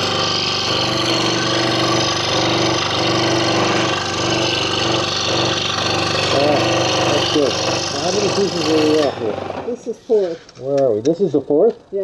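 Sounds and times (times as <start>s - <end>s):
scroll saw cutting wood: 0.0s - 11.8s.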